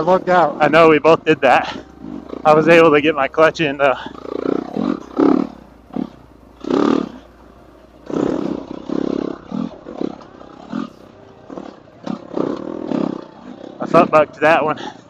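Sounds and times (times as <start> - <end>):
dirt bike engine revving: 0.0 - 14.1.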